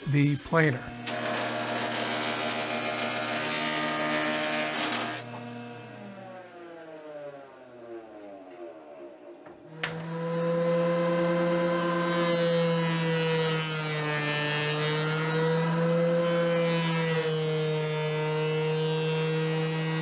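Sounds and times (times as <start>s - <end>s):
thickness planer whining: 0.0s - 20.0s.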